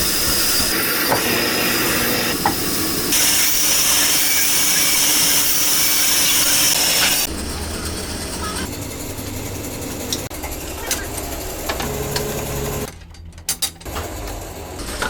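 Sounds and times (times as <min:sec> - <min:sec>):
woodworking machine hissing: 0:00.0 - 0:12.9.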